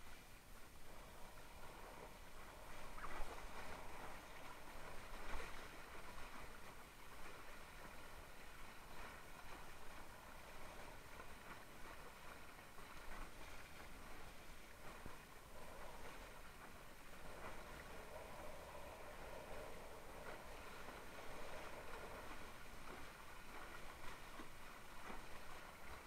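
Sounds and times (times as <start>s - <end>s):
water rushing and splashing: 0.0s - 26.0s.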